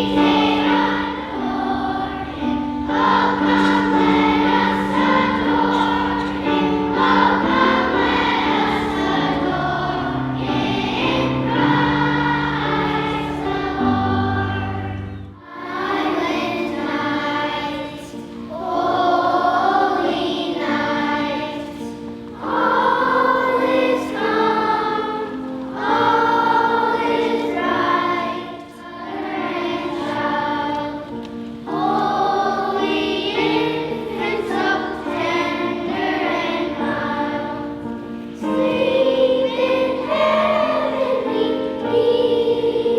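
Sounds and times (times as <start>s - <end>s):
children's choir singing: 0.0s - 42.9s.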